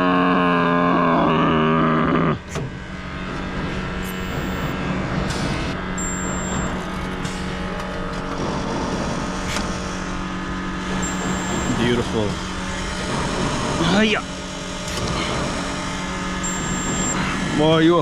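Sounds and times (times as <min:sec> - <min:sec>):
low hum: 0:00.0 - 0:17.8
spot welder buzzing: 0:02.4 - 0:18.0.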